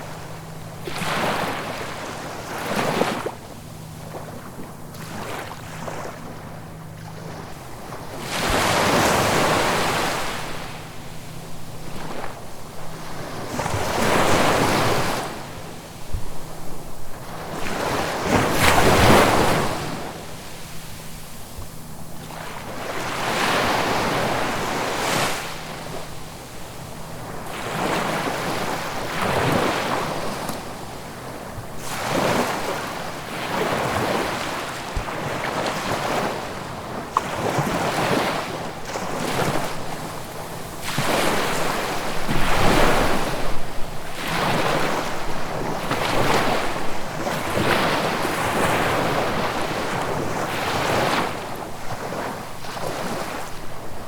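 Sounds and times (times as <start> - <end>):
ocean waves breaking ashore: 0.0 - 54.0.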